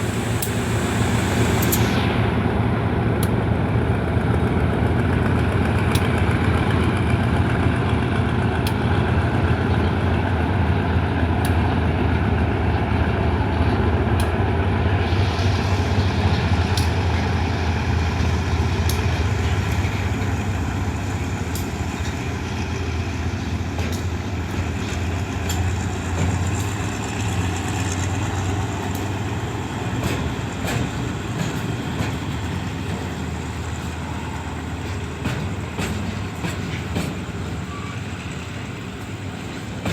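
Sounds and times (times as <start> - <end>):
diesel train engine drone: 0.0 - 39.9.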